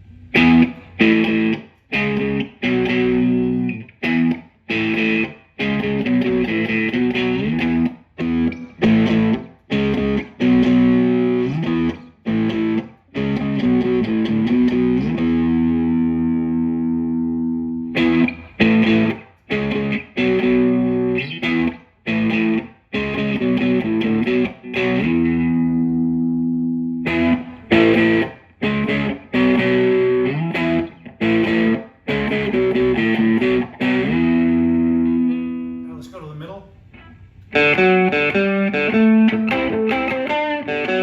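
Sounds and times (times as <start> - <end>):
overdriven electric guitar chords: 0.0 - 35.9, 36.9 - 41.0.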